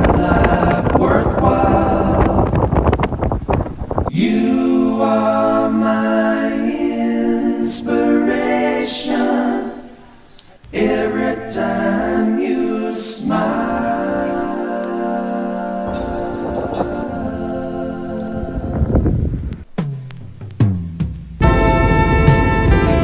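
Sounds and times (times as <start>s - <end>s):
voices singing held notes: 0.0s - 3.0s, 4.1s - 19.6s.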